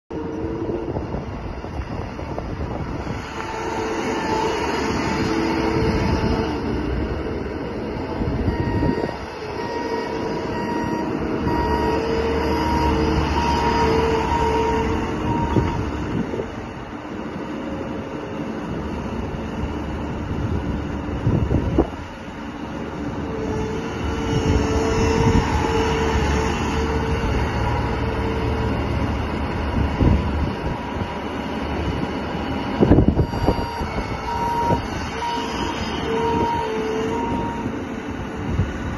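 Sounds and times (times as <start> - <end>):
diesel engine running: 0.1 - 38.9
steady whine: 0.1 - 38.9.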